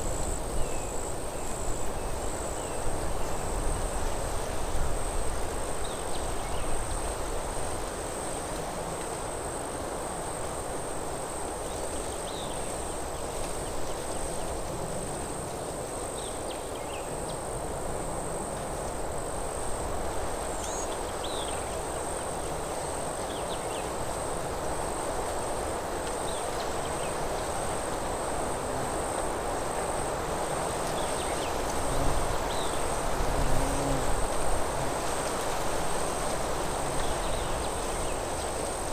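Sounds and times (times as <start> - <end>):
wind in trees: 0.0 - 38.9.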